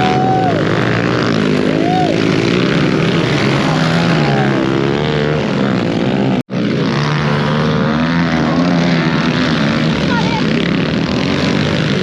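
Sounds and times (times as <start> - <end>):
small engines droning: 0.0 - 12.0.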